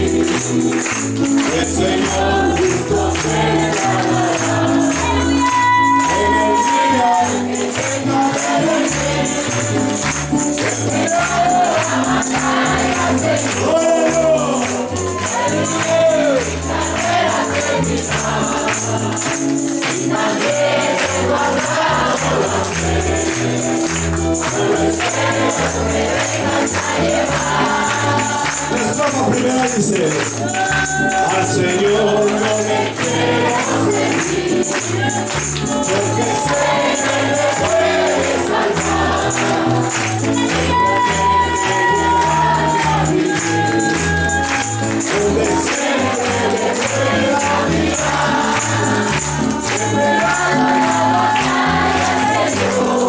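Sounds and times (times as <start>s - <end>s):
group of voices singing: 0.0s - 53.0s
hands clapping in time: 0.0s - 53.0s
keyboard: 0.0s - 53.0s.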